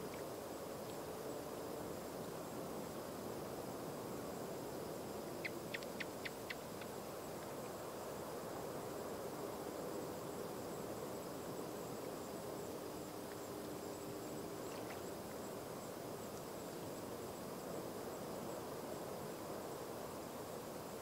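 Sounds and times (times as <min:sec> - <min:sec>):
faint insects trilling: 0:00.0 - 0:21.0
low distant hiss: 0:00.0 - 0:21.0.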